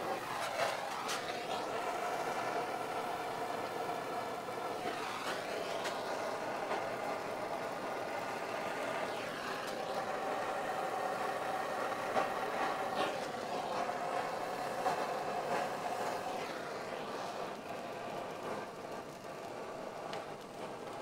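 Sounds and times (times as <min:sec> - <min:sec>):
blowtorch flame hissing: 0:00.0 - 0:21.0.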